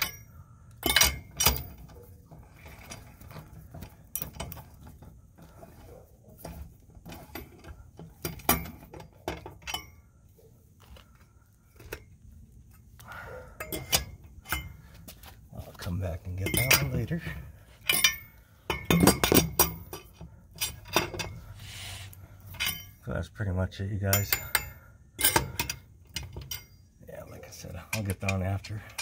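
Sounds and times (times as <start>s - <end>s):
lug wrench clanking on lug nuts: 0.0s - 10.2s, 13.0s - 23.1s, 24.0s - 29.0s.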